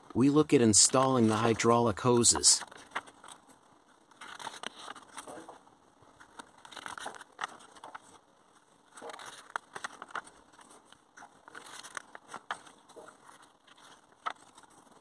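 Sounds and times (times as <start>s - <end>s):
paper pages rustling: 0.1s - 15.0s.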